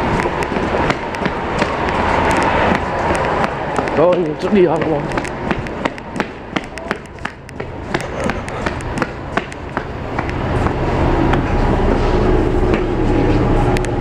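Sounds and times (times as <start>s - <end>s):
electric train low hum: 0.0s - 14.0s
footsteps on tiles: 0.0s - 14.0s.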